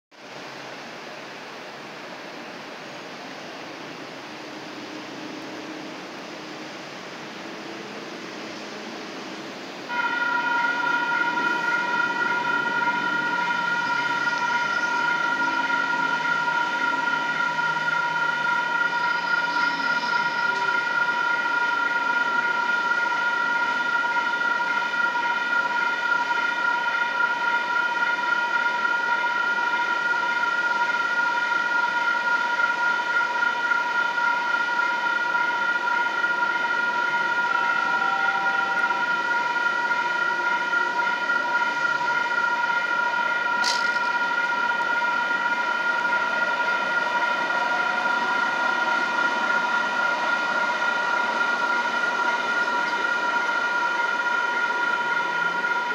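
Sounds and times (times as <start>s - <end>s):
railroad crossing warning bells: 4.4s - 55.9s.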